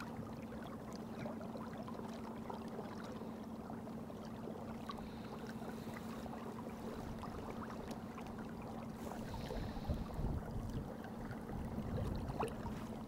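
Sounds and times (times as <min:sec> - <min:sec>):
boat engine hum: 0:00.0 - 0:13.0
small ticks and splashes: 0:00.0 - 0:13.0
water lapping: 0:00.0 - 0:13.0.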